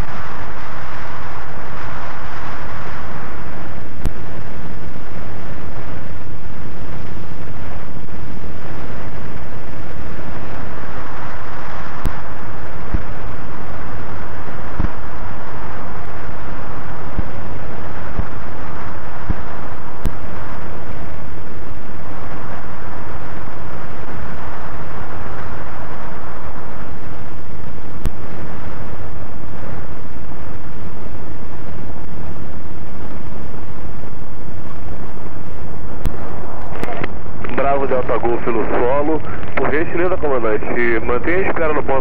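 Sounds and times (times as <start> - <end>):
light aeroplane engine: 0.0 - 42.0
wind buffeting microphone: 0.0 - 42.0
wind rush: 0.0 - 42.0.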